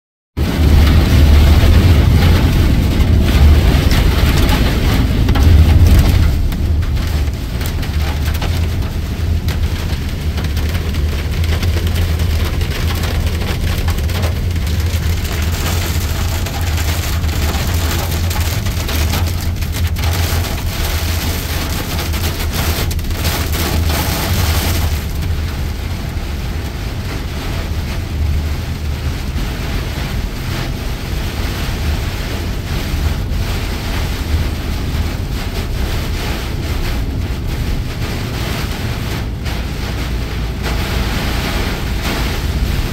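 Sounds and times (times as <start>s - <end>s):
heavy rain on vehicle windscreen: 0.4s - 42.9s.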